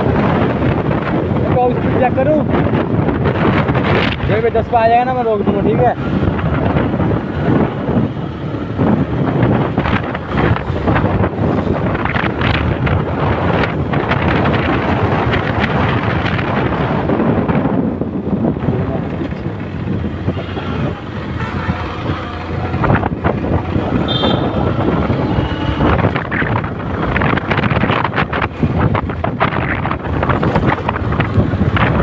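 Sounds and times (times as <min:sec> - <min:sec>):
motorcycle and road noise: 0:00.0 - 0:32.0
wind buffeting microphone: 0:00.0 - 0:32.0.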